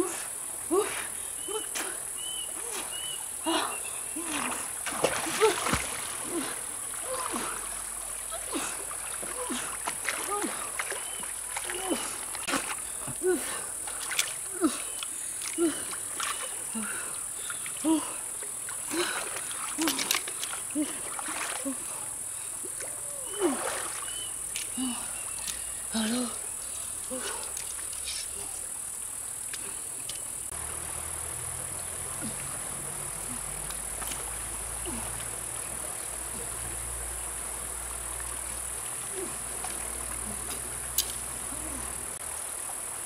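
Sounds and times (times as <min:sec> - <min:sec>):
water splashing and gurgling: 0:00.0 - 0:25.3, 0:25.9 - 0:43.0.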